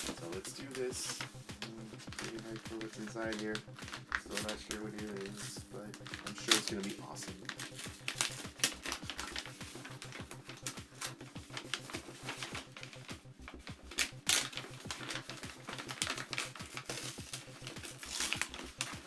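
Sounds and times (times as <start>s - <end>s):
wrapping paper crinkling: 0.0s - 19.0s
tape peeling: 1.1s - 19.0s.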